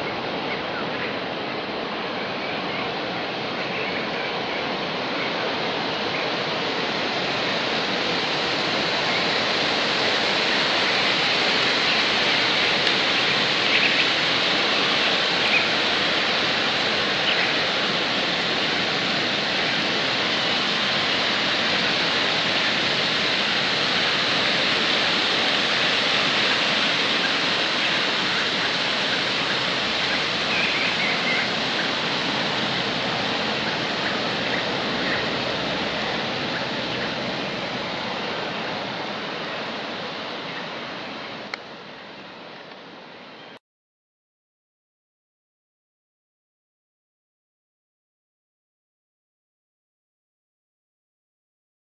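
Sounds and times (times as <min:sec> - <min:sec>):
water rushing through spillway: 0:00.0 - 0:43.2.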